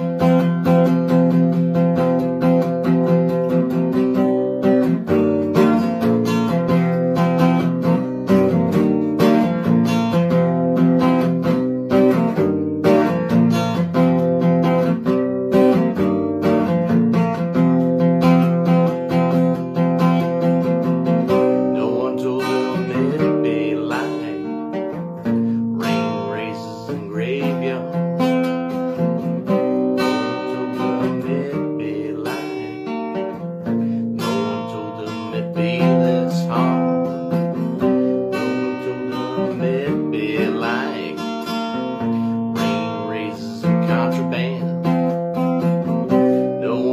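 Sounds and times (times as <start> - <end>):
acoustic guitar strumming: 0.0 - 46.9.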